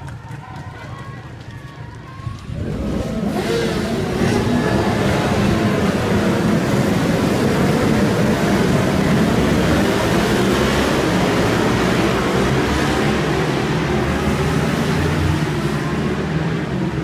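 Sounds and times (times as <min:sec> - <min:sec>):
racing motorcycles roaring: 0:02.2 - 0:17.0.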